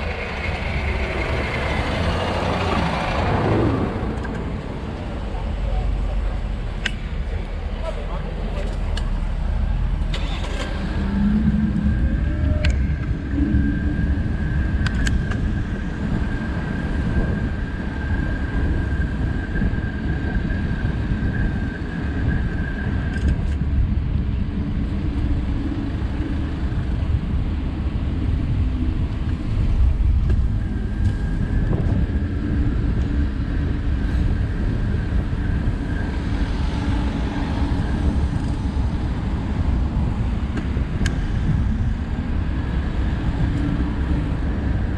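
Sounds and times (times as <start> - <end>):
cars passing: 0.0 - 23.1, 23.7 - 44.9.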